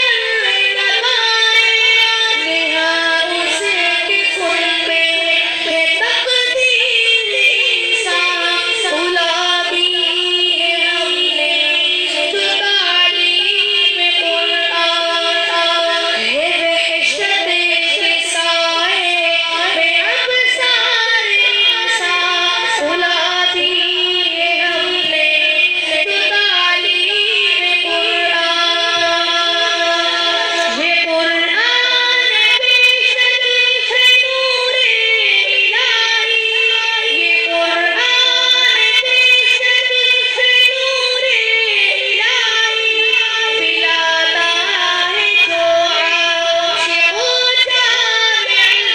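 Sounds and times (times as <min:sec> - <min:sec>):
person singing in high voice: 0:00.0 - 0:48.9
sustained backing tones: 0:00.0 - 0:48.9.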